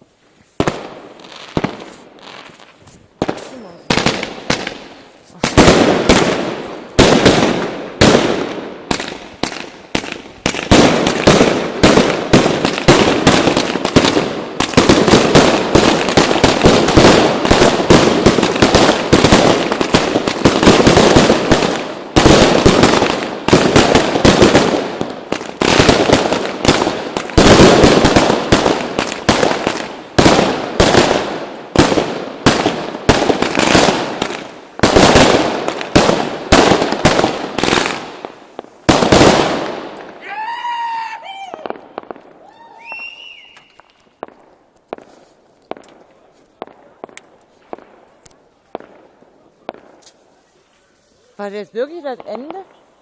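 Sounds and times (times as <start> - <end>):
fireworks banging: 0.0 - 50.4, 51.0 - 53.0.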